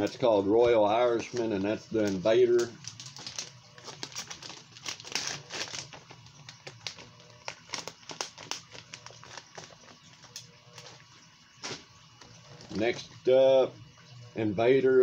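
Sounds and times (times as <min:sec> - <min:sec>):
plastic bag crinkling: 0:00.0 - 0:13.3.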